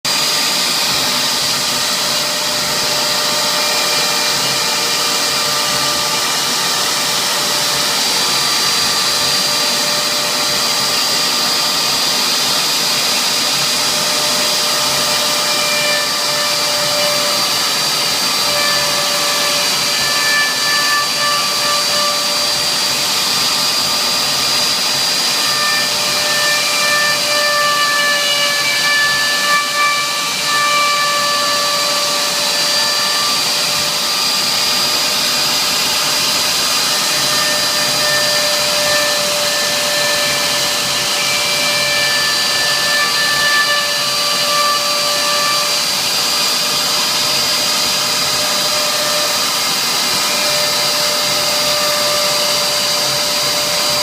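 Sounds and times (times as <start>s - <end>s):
router spindle whining and cutting: 0.0s - 54.0s.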